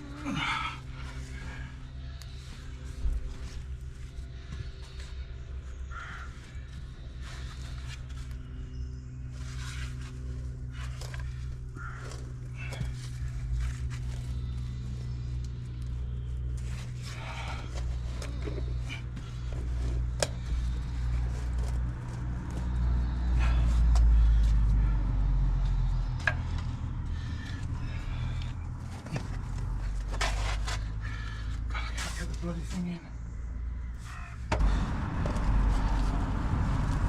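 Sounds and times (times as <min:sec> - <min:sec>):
low engine-like rumble: 0:00.0 - 0:37.0.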